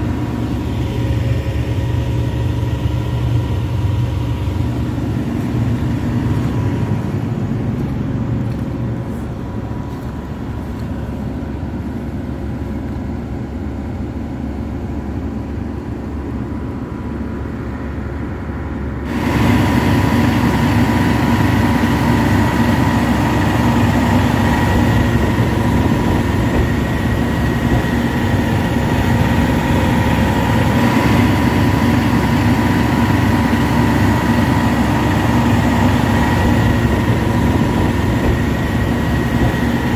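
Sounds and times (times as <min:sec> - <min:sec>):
diesel engine running: 0:00.0 - 0:39.9
faint steady whine: 0:00.0 - 0:39.9.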